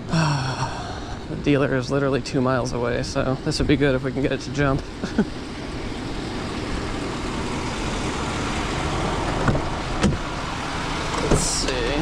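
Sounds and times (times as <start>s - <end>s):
passing traffic tyre noise: 0.8s - 12.0s.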